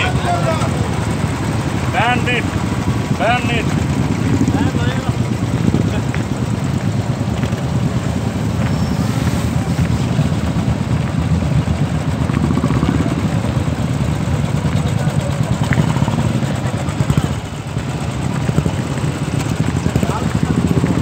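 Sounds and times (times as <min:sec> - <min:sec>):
motorcycle engines rumbling: 0:00.0 - 0:21.0
voices: 0:00.0 - 0:21.0.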